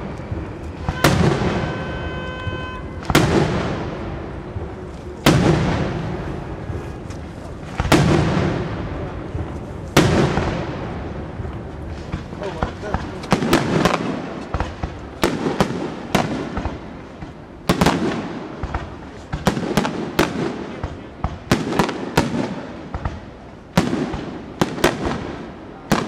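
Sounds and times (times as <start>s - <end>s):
fireworks bangs echoing: 0.0s - 26.0s.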